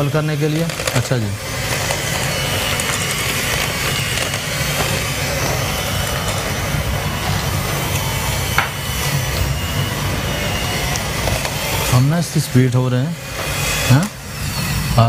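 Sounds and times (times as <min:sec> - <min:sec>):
electric hand mixer whirring: 0:00.0 - 0:15.0.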